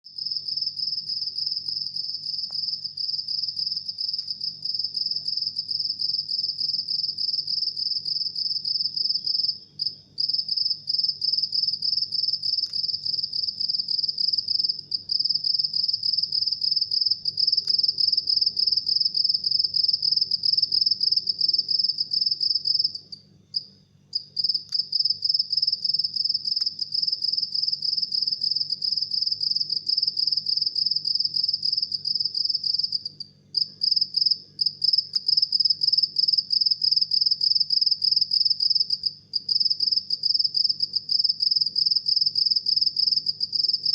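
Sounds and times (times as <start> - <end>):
cricket chirping: 0.1 - 43.9.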